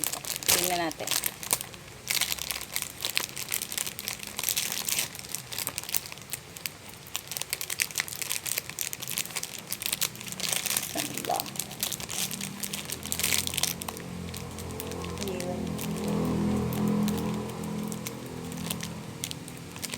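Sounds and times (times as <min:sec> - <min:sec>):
gift wrapping crinkling: 0:00.0 - 0:19.9.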